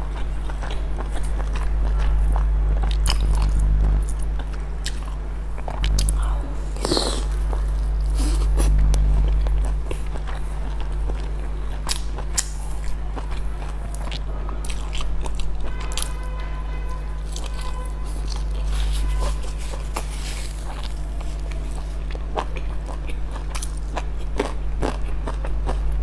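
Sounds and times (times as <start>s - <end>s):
low hum: 0.0s - 24.2s
chewing dumpling: 0.0s - 26.0s.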